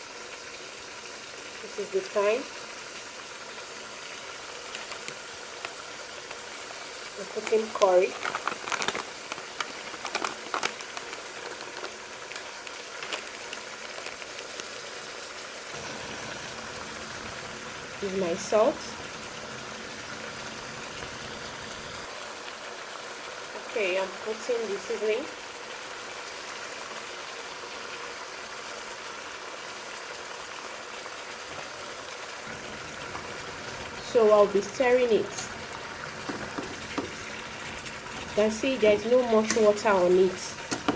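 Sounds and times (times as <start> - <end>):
meat sizzling in oil: 0.0 - 40.9.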